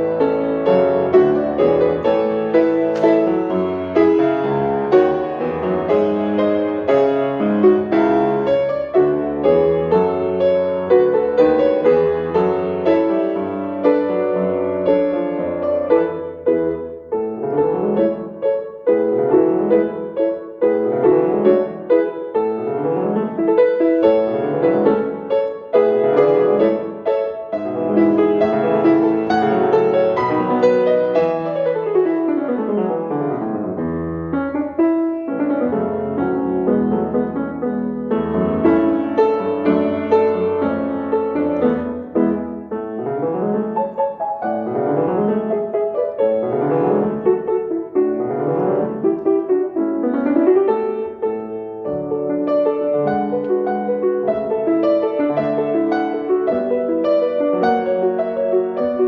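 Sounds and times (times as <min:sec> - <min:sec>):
solo piano music: 0:00.0 - 0:59.0.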